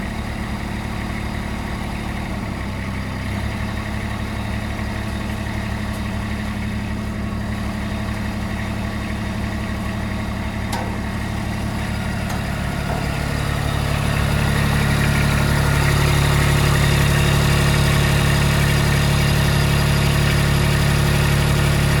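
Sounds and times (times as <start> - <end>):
diesel engine idling and revving: 0.0 - 22.0.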